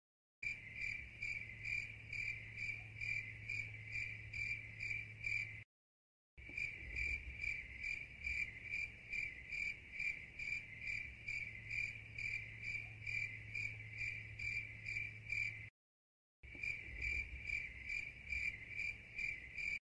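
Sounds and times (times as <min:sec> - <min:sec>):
crickets chirping: 0:00.4 - 0:05.6, 0:06.4 - 0:15.7, 0:16.5 - 0:19.8.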